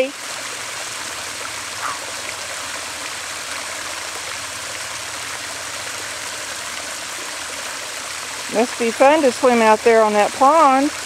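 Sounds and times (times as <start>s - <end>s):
water pouring over spillway: 0.0s - 11.0s.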